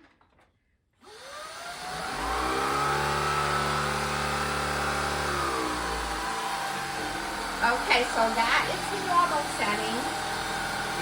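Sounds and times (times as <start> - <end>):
stick vacuum motor running: 1.0 - 11.0.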